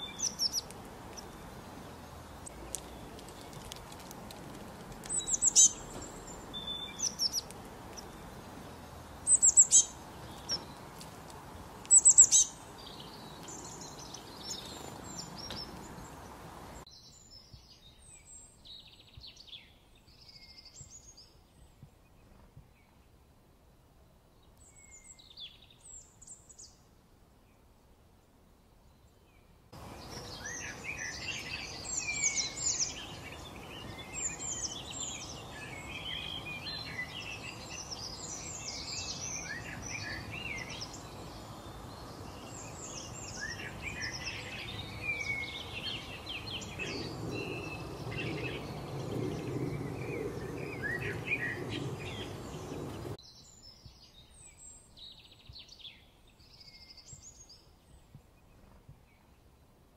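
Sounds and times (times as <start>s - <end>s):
outdoor background hiss: 0.0s - 59.9s
songbirds chirping: 0.0s - 59.9s.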